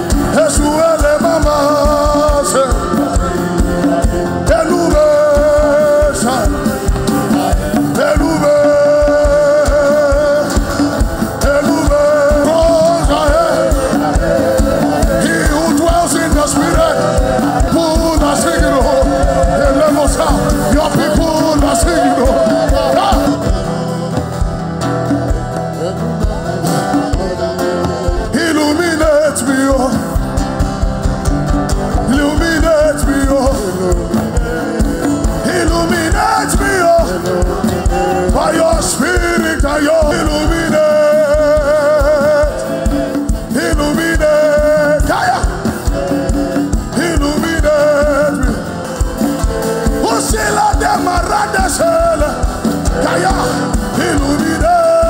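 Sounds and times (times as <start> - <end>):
band with fast drum beat: 0.0 - 55.0
person singing: 0.0 - 55.0.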